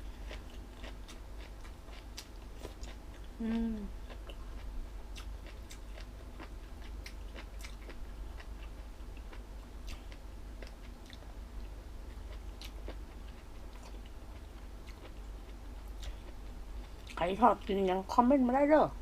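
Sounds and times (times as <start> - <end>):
crunchy chewing: 0.0 - 17.2
steady low hum: 0.0 - 19.0.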